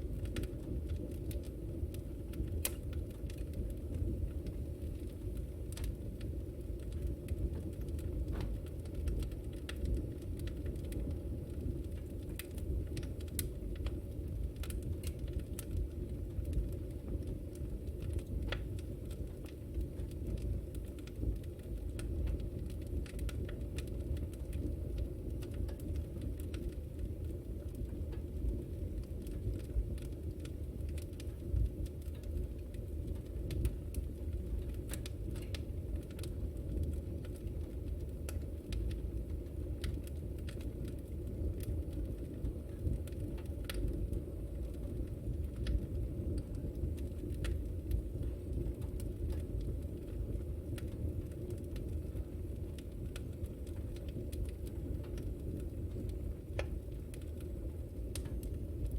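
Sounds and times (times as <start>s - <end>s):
low rumble of flames: 0.0s - 58.9s
wood fire crackling: 0.0s - 58.9s.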